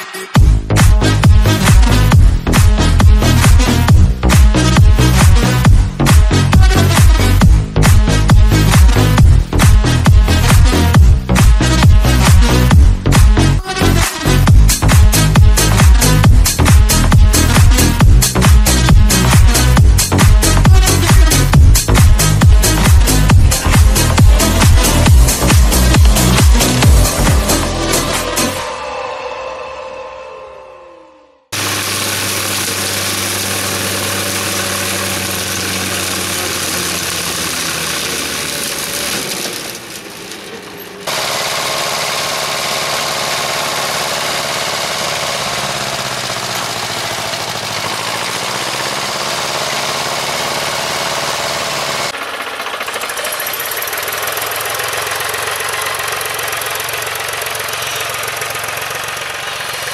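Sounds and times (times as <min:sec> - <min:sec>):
tractor diesel engines under load: 0:00.0 - 0:28.8, 0:31.5 - 0:59.9.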